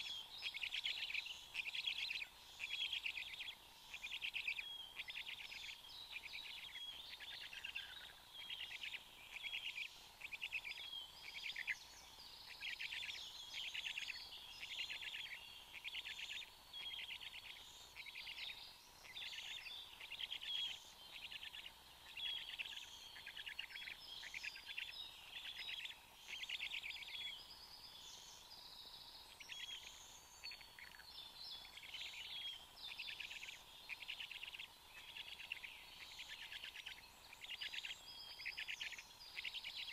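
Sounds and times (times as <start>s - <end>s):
faint steady hum: 0.0s - 39.9s
songbirds singing: 0.0s - 39.9s.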